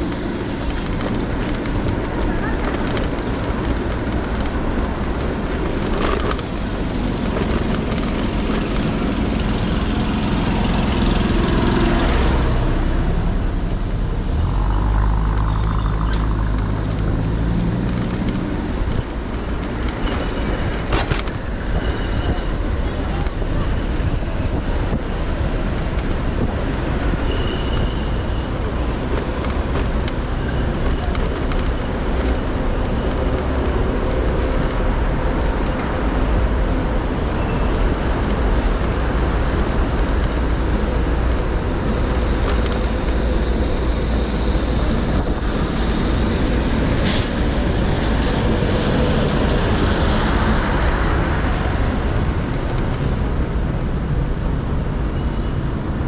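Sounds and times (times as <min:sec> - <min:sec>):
city traffic road noise: 0:00.0 - 0:56.0.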